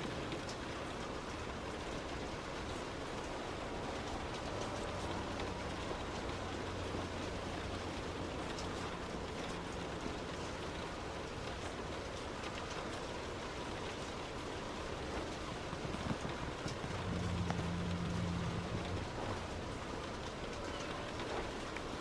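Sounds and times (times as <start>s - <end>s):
heavy rain on a car: 0.0s - 22.0s
engine and tyre hum: 3.3s - 22.0s.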